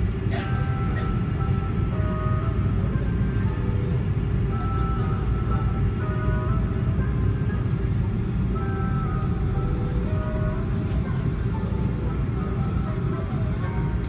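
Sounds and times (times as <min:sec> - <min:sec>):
airliner engines rumbling in cabin: 0:00.0 - 0:14.0.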